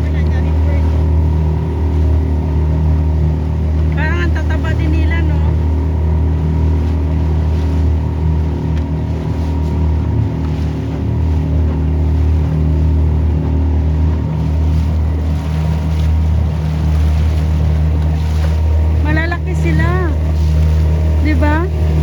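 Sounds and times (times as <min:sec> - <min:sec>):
motorboat engine humming: 0:00.0 - 0:22.0
wind and water rushing: 0:00.0 - 0:22.0.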